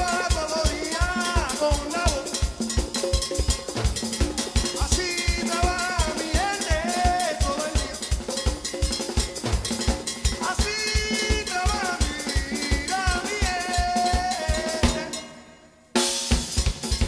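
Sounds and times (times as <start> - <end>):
drums and percussion beat: 0.0 - 17.0.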